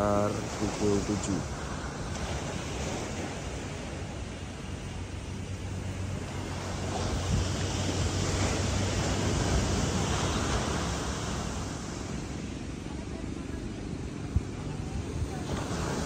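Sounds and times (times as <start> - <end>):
sea surf on rocky shore: 0.0 - 16.0
wind buffeting microphone: 0.0 - 16.0.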